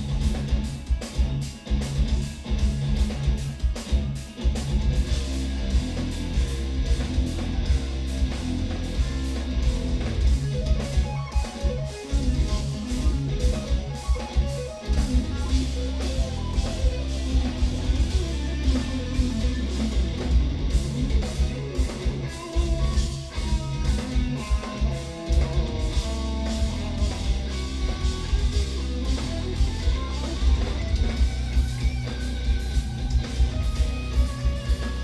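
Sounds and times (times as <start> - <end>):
metal band playing live: 0.0 - 35.0.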